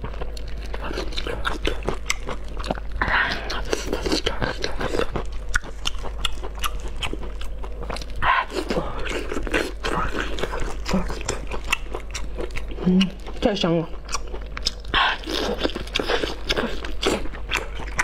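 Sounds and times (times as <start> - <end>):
wet chewing of meat: 0.0 - 18.0.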